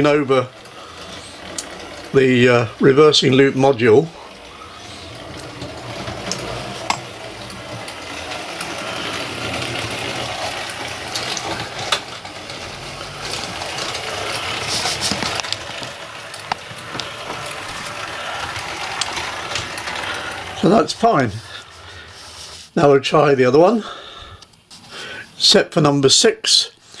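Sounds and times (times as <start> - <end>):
track clicks: 0.0 - 22.1
model train motor whirring: 0.0 - 22.8.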